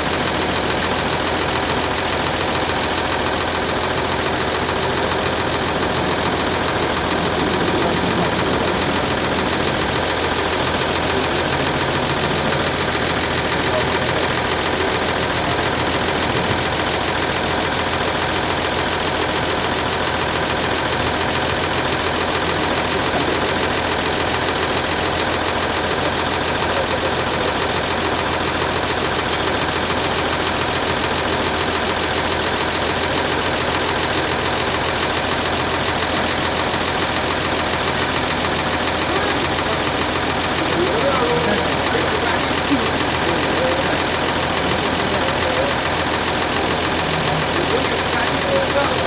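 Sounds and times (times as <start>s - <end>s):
engine idling: 0.0s - 49.0s.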